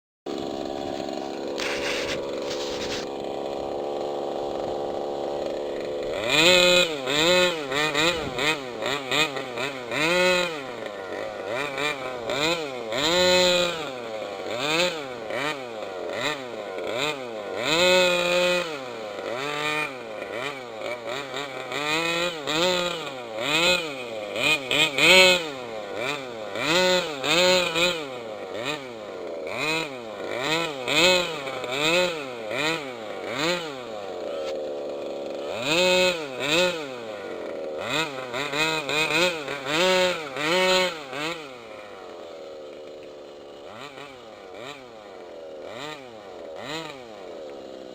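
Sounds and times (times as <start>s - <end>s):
small two-stroke engine revving: 0.3s - 47.9s.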